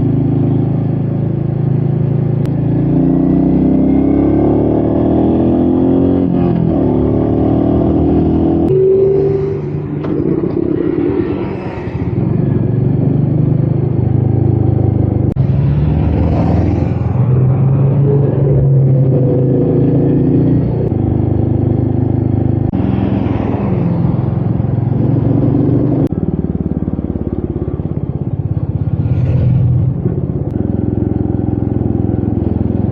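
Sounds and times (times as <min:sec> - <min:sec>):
motorcycle engine revving through gears: 0:00.0 - 0:32.9.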